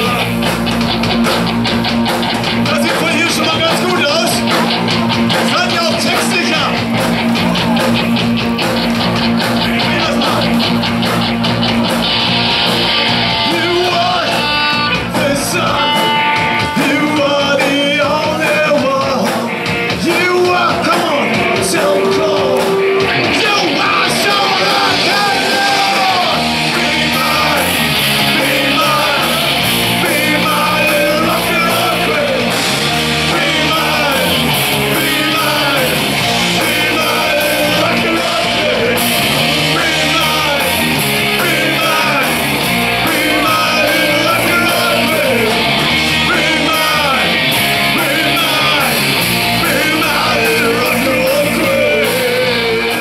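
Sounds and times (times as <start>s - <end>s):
rock band playing: 0.0s - 53.0s
singer yelling: 2.6s - 4.6s, 5.3s - 8.1s, 9.2s - 11.0s, 12.2s - 53.0s.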